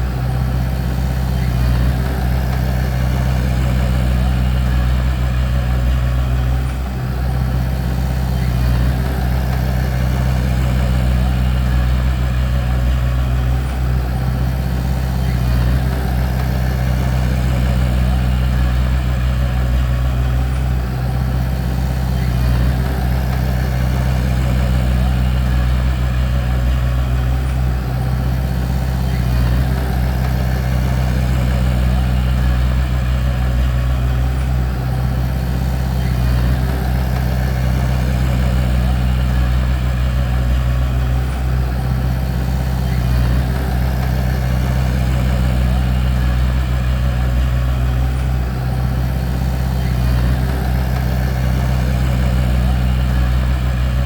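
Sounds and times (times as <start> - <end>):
bulldozer diesel engine droning: 0.0 - 54.0.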